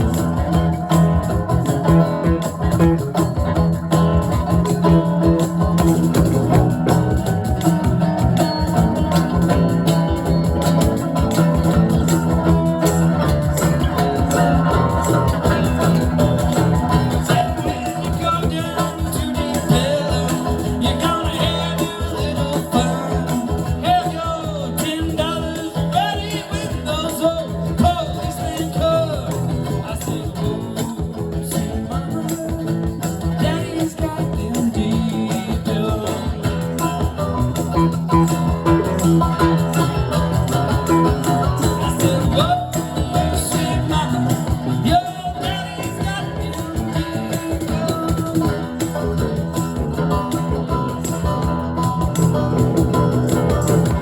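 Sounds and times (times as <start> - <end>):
blues-rock band playing: 0.0 - 54.0
shaker or tambourine: 0.0 - 54.0.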